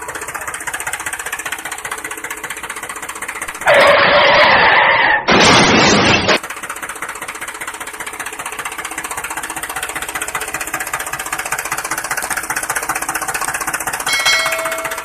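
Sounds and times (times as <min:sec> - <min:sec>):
motor running with fast clatter: 0:00.0 - 0:04.2, 0:05.3 - 0:15.0.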